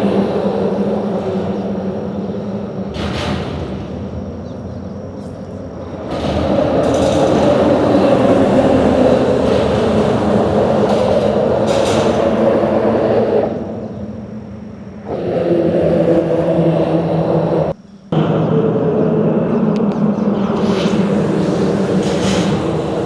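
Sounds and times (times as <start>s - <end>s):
heavy vehicle passing: 0.0s - 23.0s
traffic noise: 0.0s - 23.0s.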